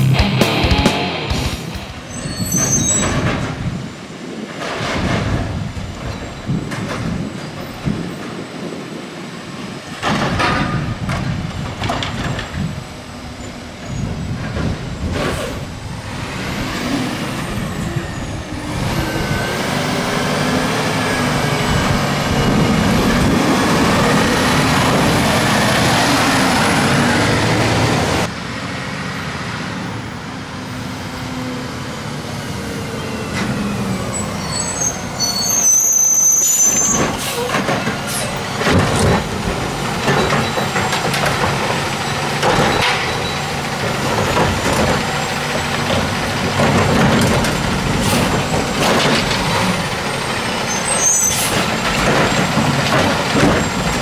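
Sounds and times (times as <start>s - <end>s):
truck engine whining: 0.0s - 4.4s, 9.7s - 54.0s.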